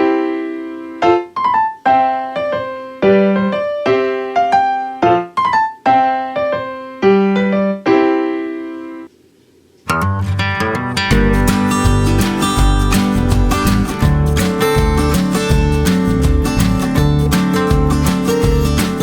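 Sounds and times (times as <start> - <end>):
solo piano melody: 0.0 - 9.1, 10.4 - 19.0.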